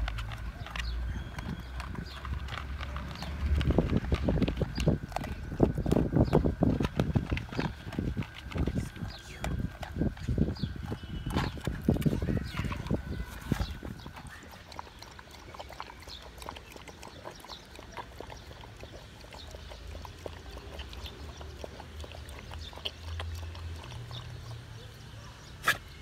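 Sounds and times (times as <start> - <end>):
dog lapping water: 0.0 - 26.0.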